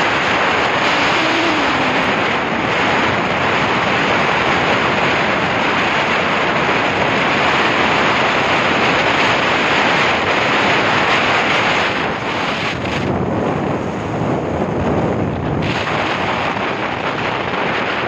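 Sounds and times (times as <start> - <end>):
road noise: 0.0 - 18.0
wind rushing on microphone: 0.0 - 18.0.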